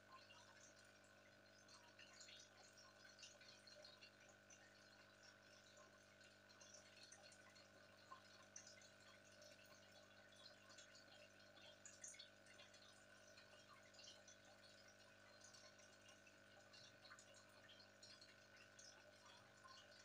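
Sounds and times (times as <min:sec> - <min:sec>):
aquarium air stone bubbling: 0:00.0 - 0:20.0.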